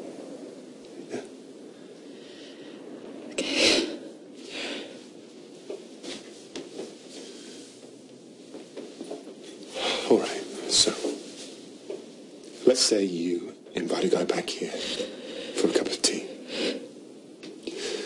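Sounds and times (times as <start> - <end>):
faint background noise: 0.0 - 18.0.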